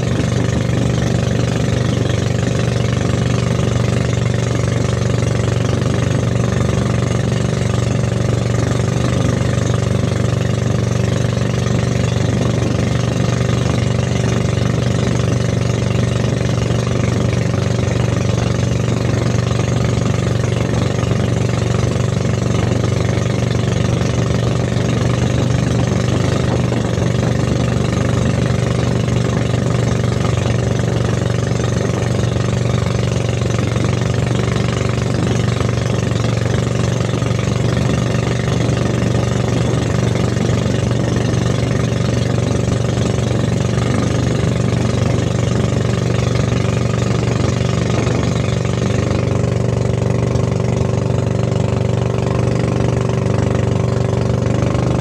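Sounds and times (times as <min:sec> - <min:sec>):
boat engine humming: 0:00.0 - 0:55.0
water rushing along hull: 0:00.0 - 0:55.0.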